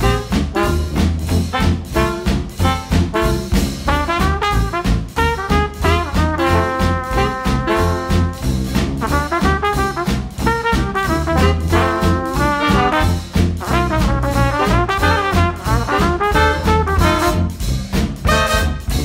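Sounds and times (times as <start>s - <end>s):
swing jazz with brass instruments: 0.0s - 19.0s.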